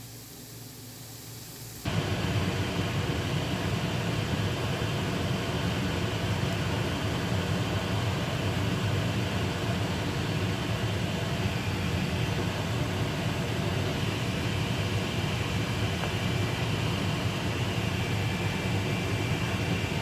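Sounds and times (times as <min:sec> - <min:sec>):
microwave vent fan humming: 0:00.0 - 0:20.0.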